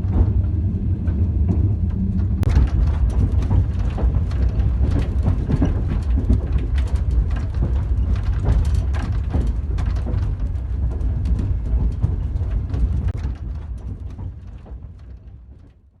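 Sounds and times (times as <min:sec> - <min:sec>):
train carriage rumble: 0:00.0 - 0:16.0
train wheels clicking and knocking: 0:00.0 - 0:16.0.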